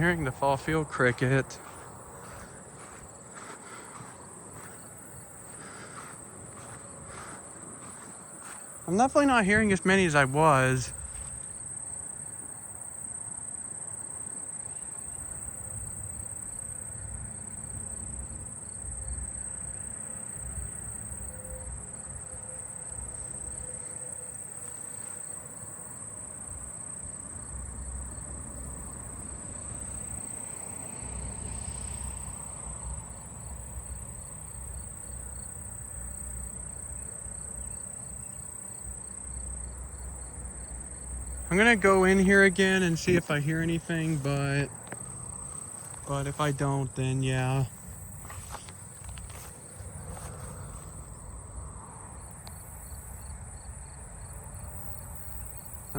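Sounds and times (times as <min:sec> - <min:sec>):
pulsed insect chirping: 0:00.0 - 0:16.8, 0:27.9 - 0:55.9
high-pitched insect trill: 0:00.0 - 0:55.9.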